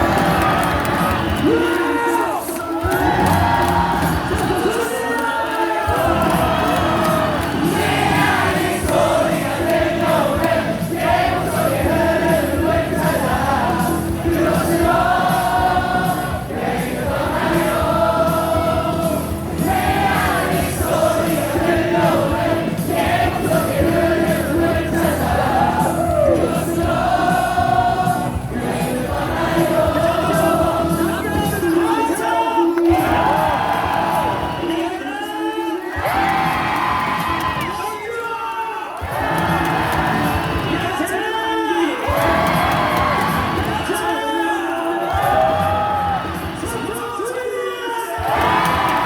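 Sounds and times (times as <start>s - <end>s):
crowd singing in unison: 0.0s - 37.8s, 39.0s - 49.0s.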